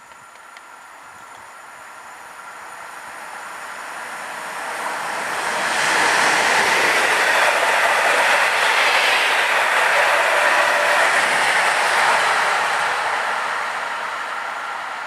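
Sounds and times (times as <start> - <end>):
train wheels on rails passing: 0.0 - 15.0.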